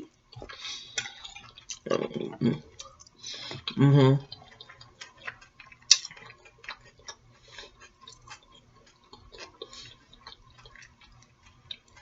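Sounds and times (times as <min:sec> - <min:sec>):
person chewing mouth sounds: 0:00.0 - 0:12.0.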